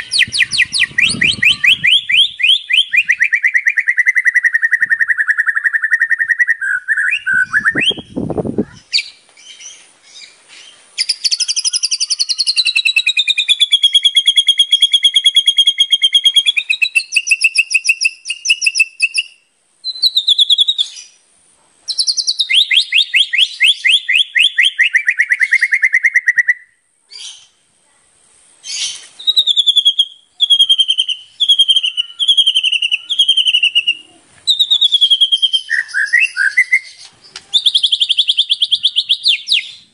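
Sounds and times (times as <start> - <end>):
bird singing rapid trills: 0.0 - 8.2, 11.0 - 21.2, 21.9 - 26.6, 28.7 - 39.9.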